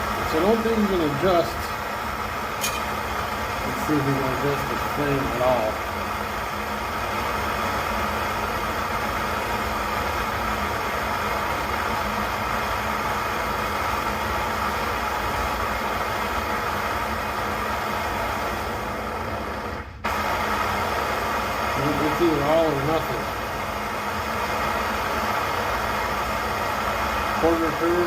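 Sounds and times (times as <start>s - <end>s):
stove burner roaring: 0.0s - 28.0s.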